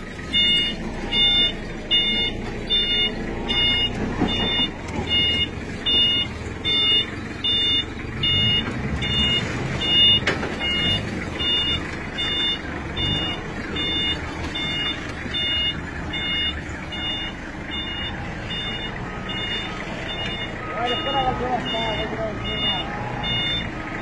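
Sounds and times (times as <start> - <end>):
low engine rumble: 0.0 - 24.0
reversing beeper: 0.2 - 24.0.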